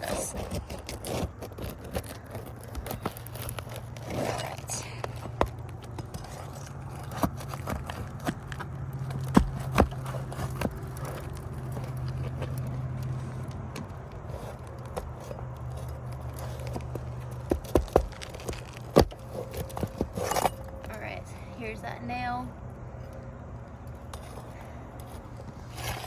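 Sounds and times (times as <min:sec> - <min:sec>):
metal scraping on shingles: 0:00.0 - 0:26.0
steady low hum: 0:00.0 - 0:26.0.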